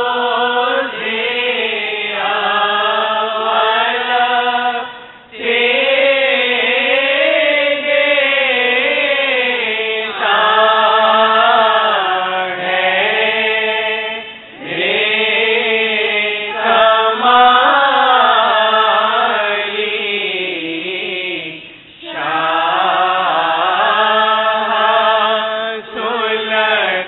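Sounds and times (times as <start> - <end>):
devotional vocal chanting: 0.0 - 27.0.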